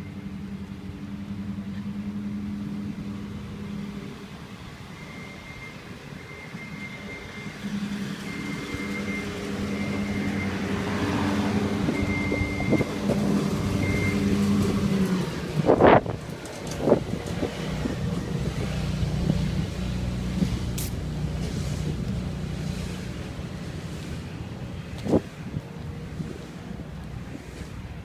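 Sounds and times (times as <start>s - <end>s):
motor vehicle engine drone: 0.0s - 28.0s.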